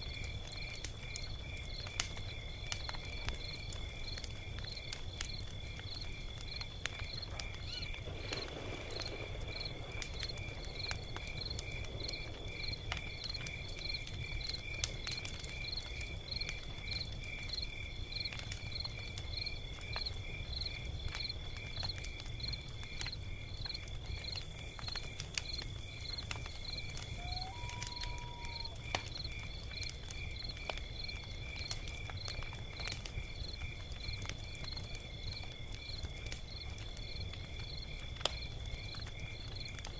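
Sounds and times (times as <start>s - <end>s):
cricket chirping: 0.0s - 39.9s
log fire crackling and popping: 0.0s - 39.9s.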